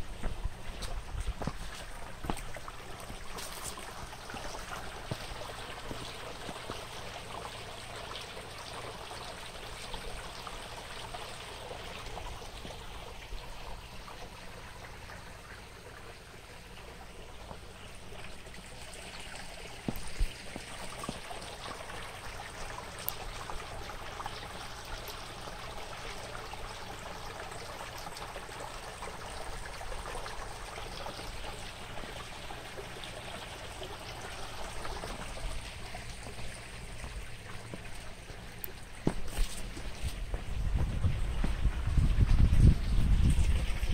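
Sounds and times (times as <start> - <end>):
stream flowing: 0.0 - 43.9.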